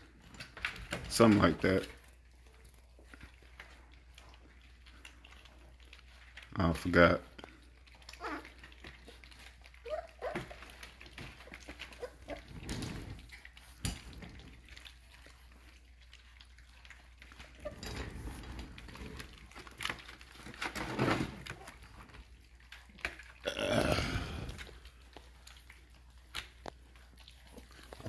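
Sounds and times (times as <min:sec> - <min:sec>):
puppies making small noises: 0:00.0 - 0:28.0.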